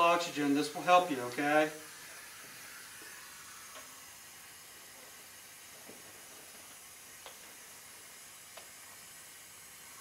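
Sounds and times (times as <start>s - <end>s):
oxygen hissing from regulator: 0.0s - 10.0s.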